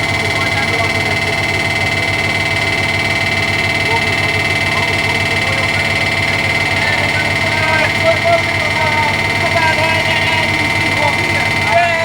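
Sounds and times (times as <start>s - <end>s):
locomotive engine running: 0.0s - 12.0s.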